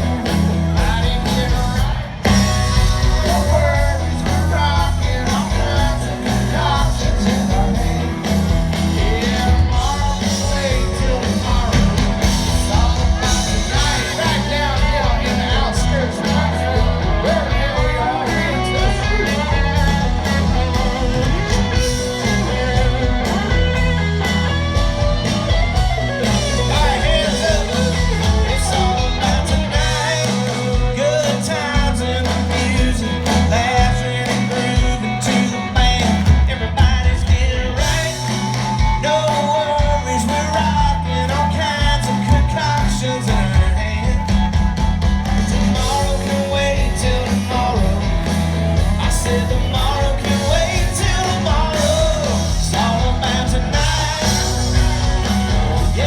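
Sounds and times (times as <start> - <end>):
lead vocals: 0.0 - 56.0
live country-rock band: 0.0 - 56.0.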